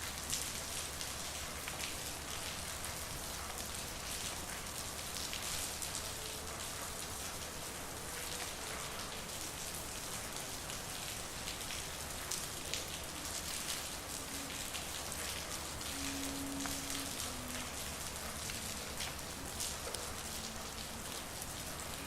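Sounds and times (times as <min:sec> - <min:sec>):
raindrops clicking on hard surfaces: 0:00.0 - 0:22.0
steady rain on a street: 0:00.0 - 0:22.0.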